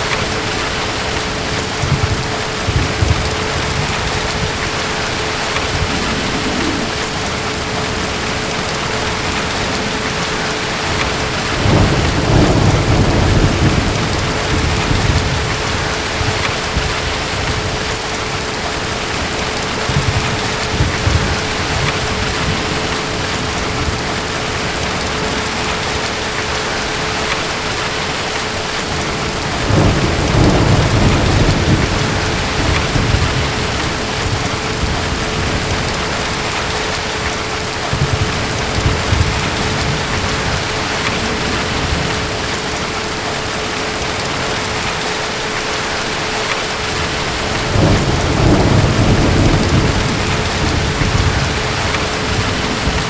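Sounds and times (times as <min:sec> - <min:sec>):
distant thunder rolling: 0:00.0 - 0:53.0
heavy rain: 0:00.0 - 0:53.0.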